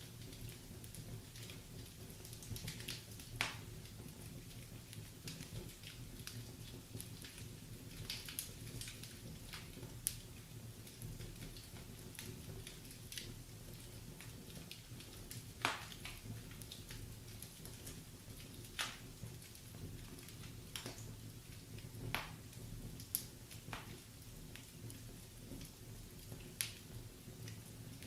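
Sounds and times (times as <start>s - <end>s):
burning logs popping: 0.0s - 28.0s
wood fire crackling: 0.0s - 28.0s.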